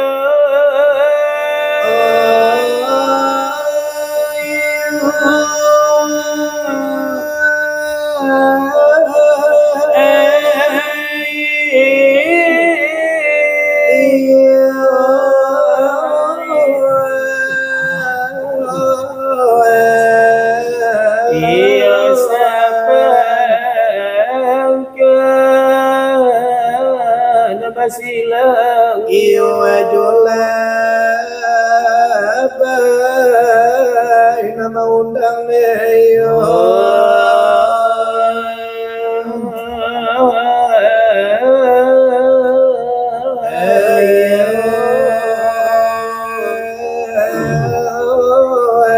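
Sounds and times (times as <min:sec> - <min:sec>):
men singing devotional chant: 0:00.0 - 0:48.9.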